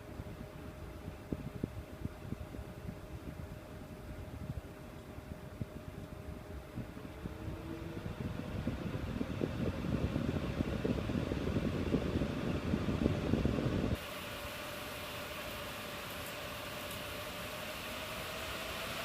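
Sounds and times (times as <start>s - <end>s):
graphics card fans whirring: 0.0s - 19.0s.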